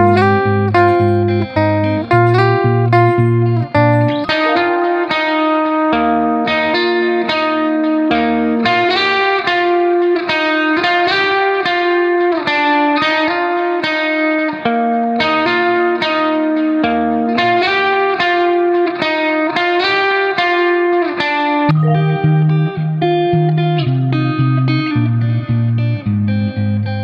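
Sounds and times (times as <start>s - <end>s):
instrumental music with plucked notes: 0.0s - 19.7s, 21.7s - 27.0s.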